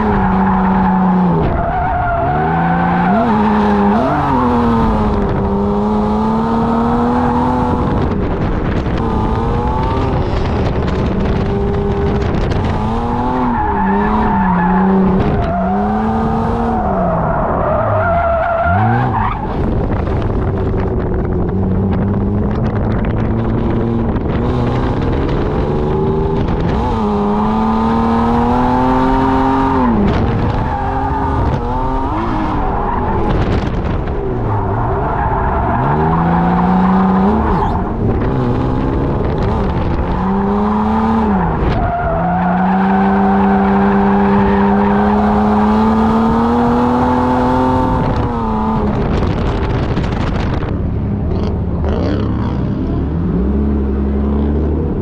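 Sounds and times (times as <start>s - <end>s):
wind noise: 0.0s - 17.7s, 18.6s - 55.0s
car engine revving: 0.0s - 55.0s.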